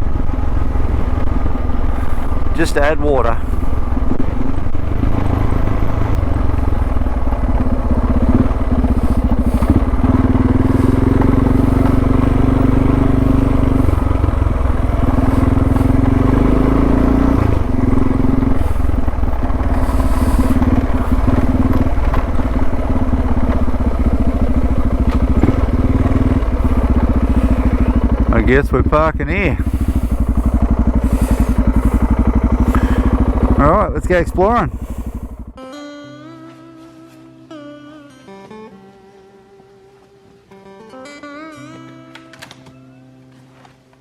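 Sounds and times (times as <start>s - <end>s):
motorcycle engine running: 0.0s - 39.2s.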